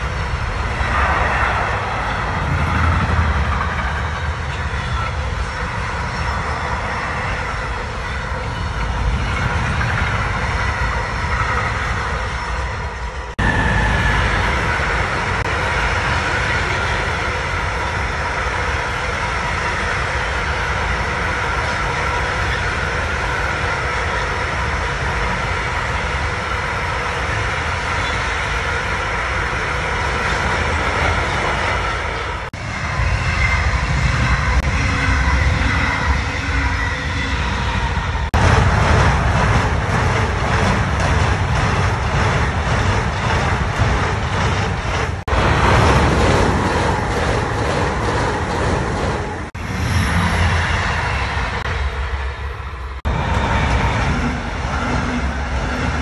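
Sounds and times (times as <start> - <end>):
train passing: 0.0 - 56.0
train wheels on rail: 0.0 - 56.0.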